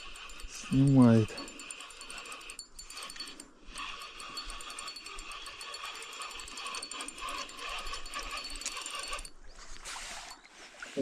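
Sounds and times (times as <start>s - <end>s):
fishing reel clicking: 0.0s - 10.4s.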